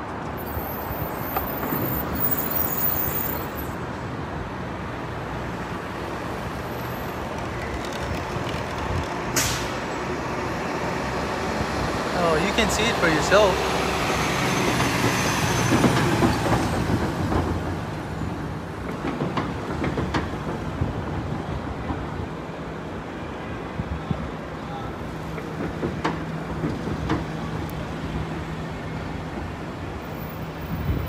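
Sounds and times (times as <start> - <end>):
traffic passing: 0.0 - 31.0.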